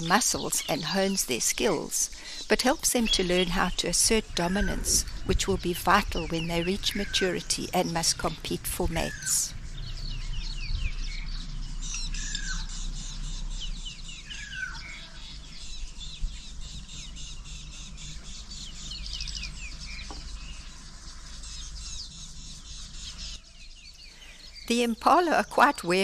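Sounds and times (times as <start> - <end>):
birds chirping: 0.0 - 26.0
low steady rumble: 3.0 - 23.9.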